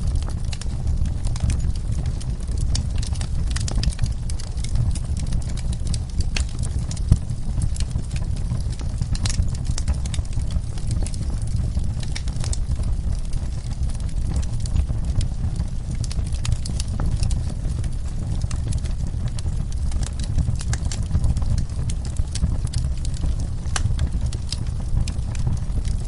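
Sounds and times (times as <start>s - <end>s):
fire crackling and popping: 0.0s - 26.0s
fire rumbling in fireplace: 0.0s - 26.0s.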